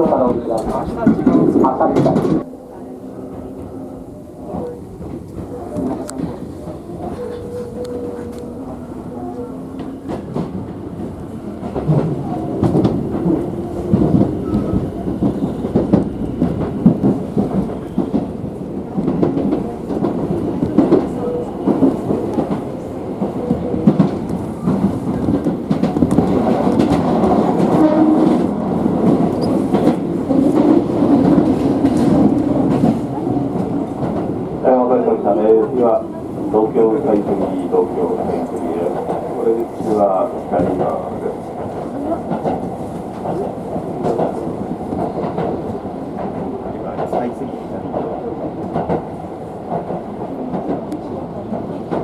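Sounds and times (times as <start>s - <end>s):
train rumble from inside: 0.0s - 52.0s.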